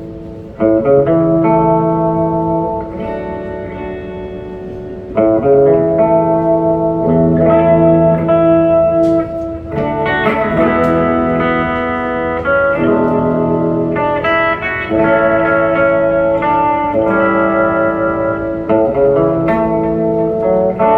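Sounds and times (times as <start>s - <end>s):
electric guitar chords: 0.0s - 20.9s.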